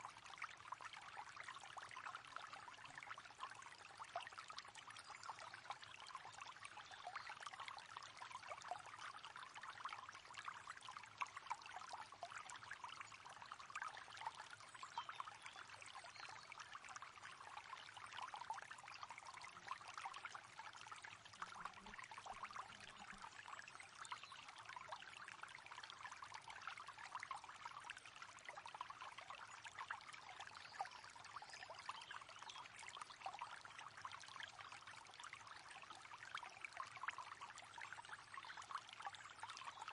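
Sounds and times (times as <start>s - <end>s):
river water babbling: 0.1s - 39.9s.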